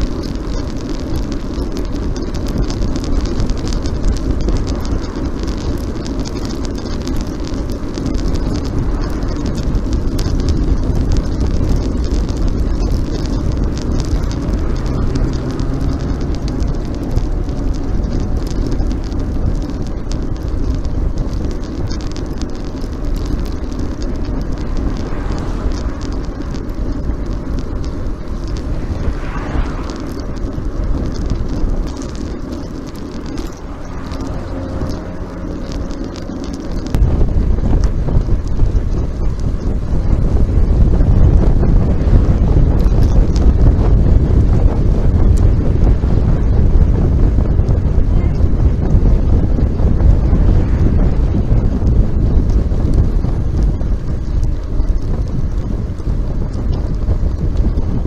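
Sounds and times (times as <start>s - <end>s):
road noise rumble: 0.0s - 58.0s
short crackles: 0.0s - 58.0s
wind buffeting microphone: 0.0s - 58.0s.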